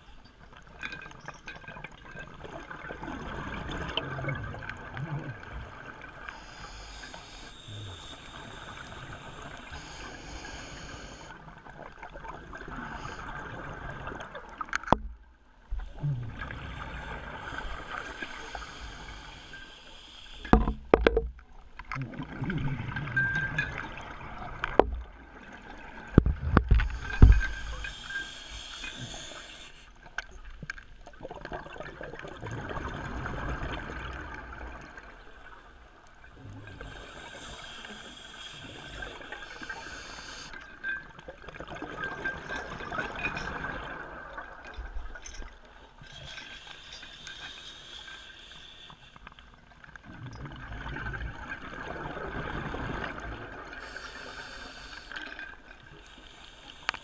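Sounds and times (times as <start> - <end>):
steady underwater hiss: 2.7 - 14.7, 15.6 - 21.0, 23.4 - 31.2, 32.1 - 41.5, 42.3 - 50.1, 50.8 - 57.0.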